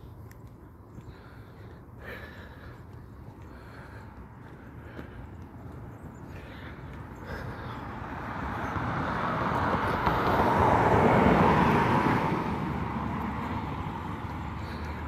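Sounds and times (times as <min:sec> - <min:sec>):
vehicle passing by: 0:00.4 - 0:15.0.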